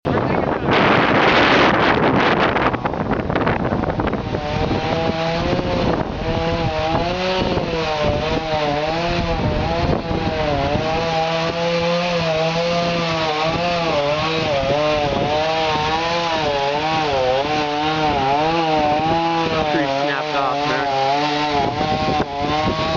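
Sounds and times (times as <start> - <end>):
chainsaw cutting wood: 0.1 - 22.9.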